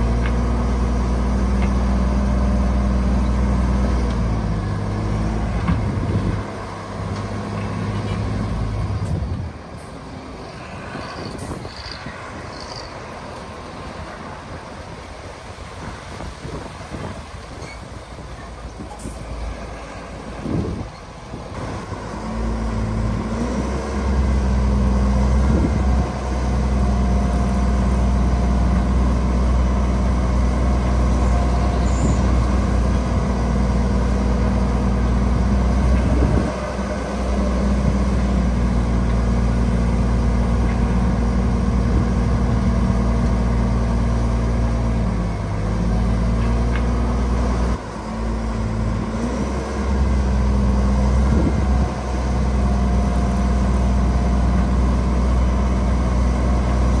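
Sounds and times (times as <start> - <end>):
diesel earthmoving machinery running: 0.0 - 57.0.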